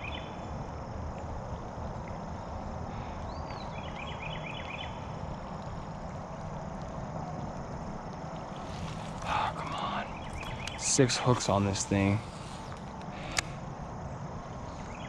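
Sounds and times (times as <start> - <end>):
songbird singing: 0.0 - 0.6, 1.2 - 6.6, 8.3 - 15.0
low outdoor rushing noise: 0.0 - 15.0.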